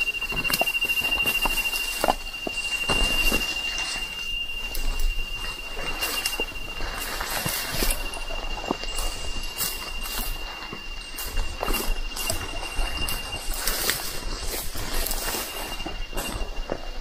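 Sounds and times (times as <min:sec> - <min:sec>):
footsteps on a trail: 0:00.0 - 0:17.0
steady high-pitched tone: 0:00.0 - 0:17.0.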